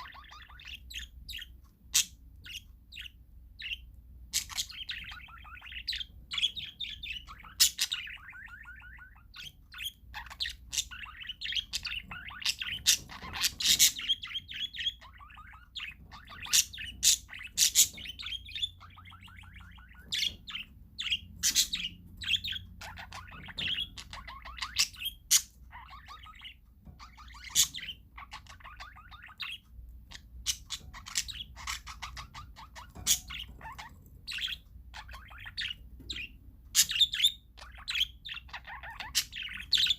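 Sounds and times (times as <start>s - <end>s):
parakeet squawks: 0.0s - 39.9s
parakeets chattering: 0.0s - 39.9s.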